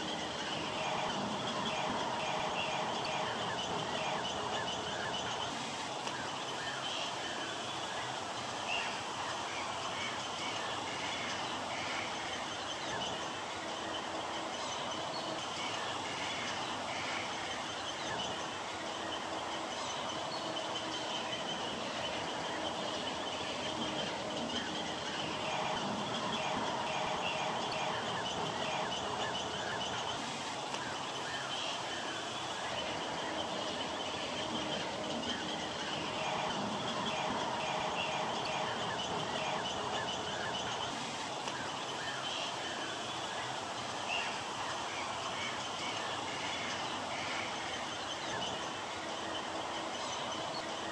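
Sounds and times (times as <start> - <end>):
chorus of bird chirps: 0.0 - 50.9.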